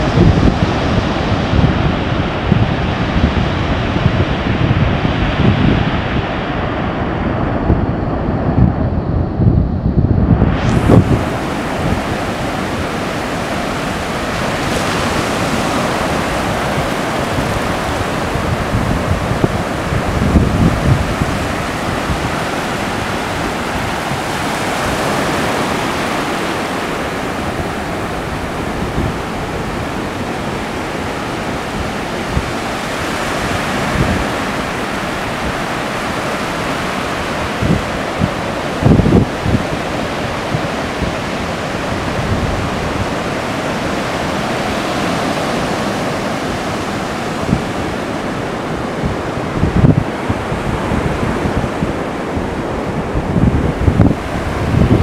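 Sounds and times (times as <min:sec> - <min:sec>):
surf breaking on beach: 0:00.0 - 0:08.7, 0:10.2 - 0:55.0
wind thumps on microphone: 0:00.0 - 0:55.0.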